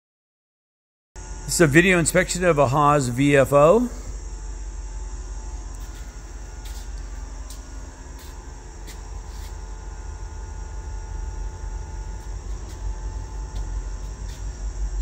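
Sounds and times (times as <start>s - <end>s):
faint high whine: 1.2s - 15.0s
machine-shop hum and rumble: 1.2s - 15.0s.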